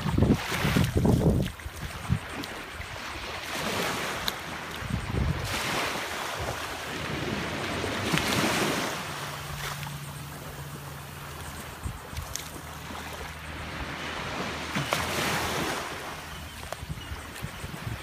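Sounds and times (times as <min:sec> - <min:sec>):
wind buffeting microphone: 0:00.0 - 0:09.0, 0:11.5 - 0:18.0
small surf waves on sand: 0:00.0 - 0:18.0.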